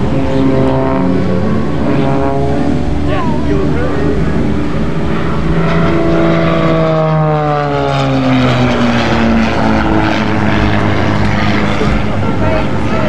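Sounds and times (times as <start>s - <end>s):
propeller plane engine at high power: 0.0s - 13.0s.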